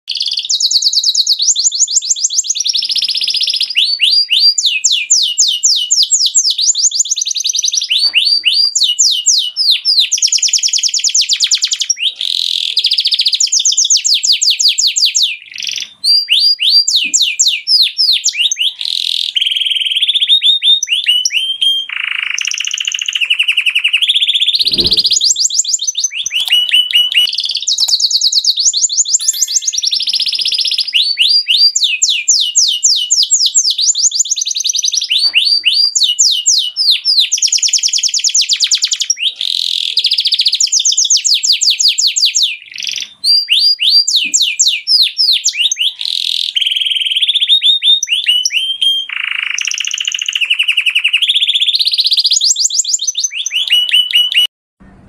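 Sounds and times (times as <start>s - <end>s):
canary singing: 0.1s - 54.5s.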